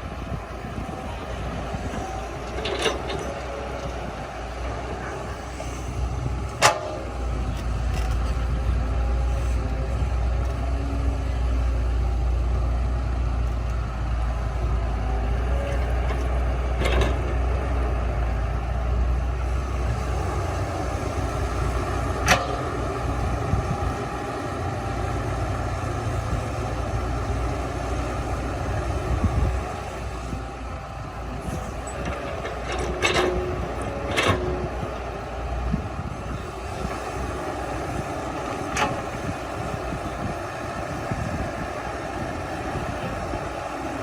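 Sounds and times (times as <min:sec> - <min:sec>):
diesel machinery engine rumble: 0:00.0 - 0:44.0.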